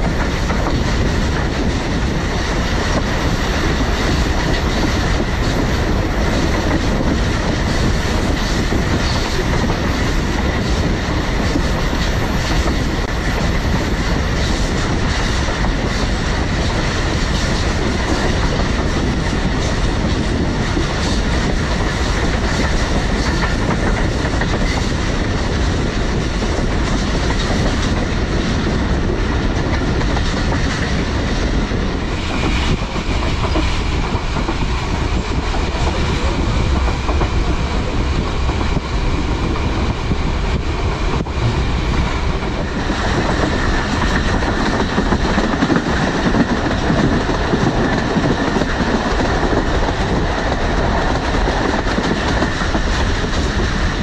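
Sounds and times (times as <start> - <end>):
passenger train rumbling: 0.0 - 54.0.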